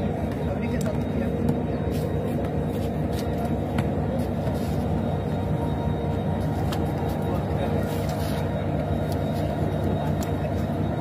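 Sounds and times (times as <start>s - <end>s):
diesel train engine idling: 0.0s - 11.0s.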